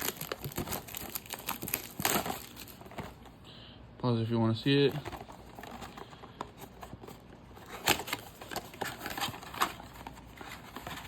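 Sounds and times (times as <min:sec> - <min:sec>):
card packs rustling: 0:00.0 - 0:03.4, 0:04.3 - 0:11.0.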